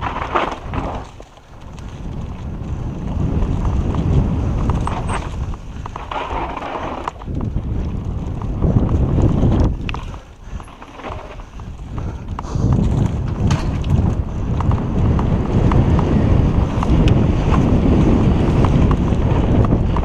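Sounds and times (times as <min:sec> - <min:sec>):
bike clicking and rattling: 0:00.0 - 0:20.0
tyres rumbling over dirt: 0:00.0 - 0:20.0
wind buffeting microphone: 0:00.0 - 0:20.0.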